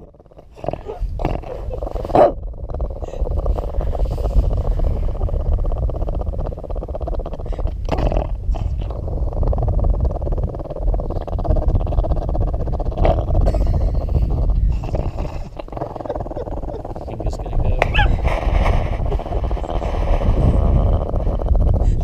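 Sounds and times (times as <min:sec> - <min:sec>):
dog growling low: 0:00.0 - 0:22.0.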